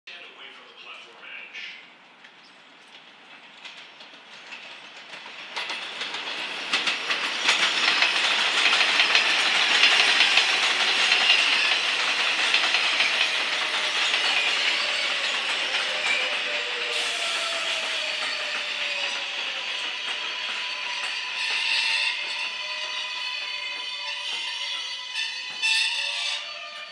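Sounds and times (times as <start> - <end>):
train passing on elevated track: 0.1 - 26.9.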